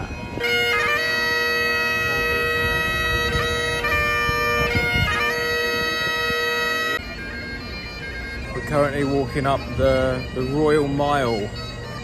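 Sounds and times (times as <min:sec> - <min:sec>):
bagpipes playing: 0:00.0 - 0:12.0.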